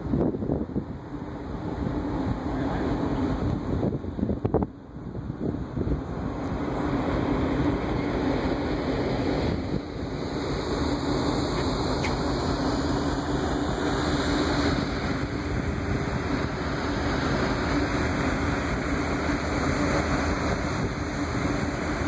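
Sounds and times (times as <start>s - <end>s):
churning wake rushing: 0.0s - 22.0s
ship engine hum: 0.0s - 22.0s
wind buffeting microphone: 0.0s - 22.0s.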